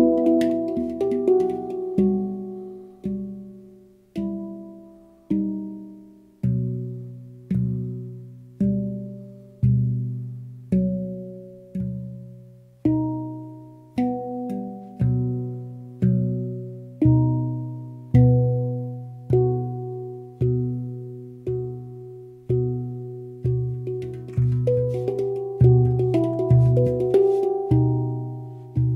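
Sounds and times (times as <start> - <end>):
handpan notes ringing: 0.0 - 28.9.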